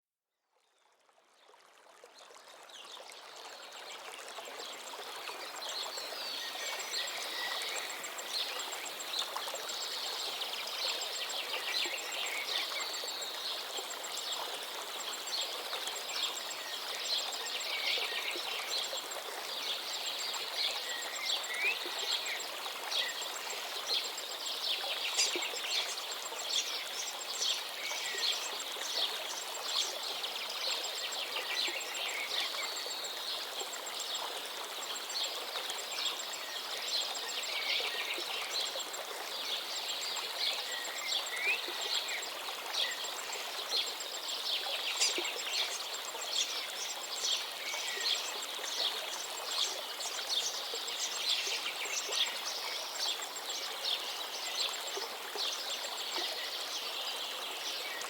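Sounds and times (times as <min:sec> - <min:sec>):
running water: 0:00.8 - 0:58.0.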